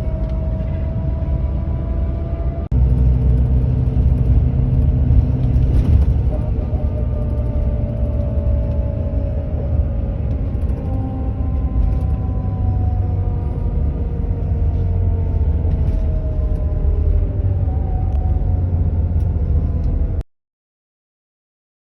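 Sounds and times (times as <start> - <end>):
bus engine and road rumble: 0.0 - 20.3.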